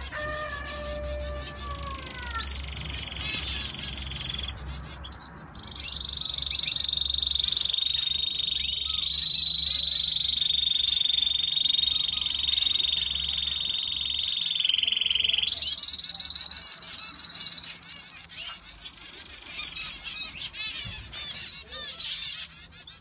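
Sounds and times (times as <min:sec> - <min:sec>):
canary trilling: 0:00.0 - 0:23.0.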